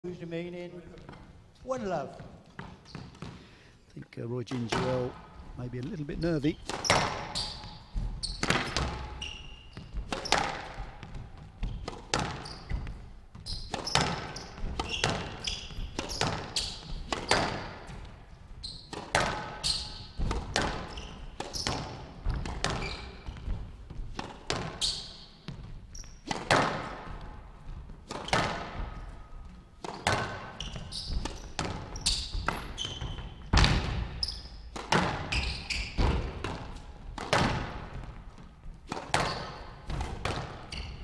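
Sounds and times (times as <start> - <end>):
squash ball strikes echoing: 4.5 - 9.2, 9.8 - 18.2, 18.9 - 24.8, 25.4 - 27.3, 28.0 - 41.0.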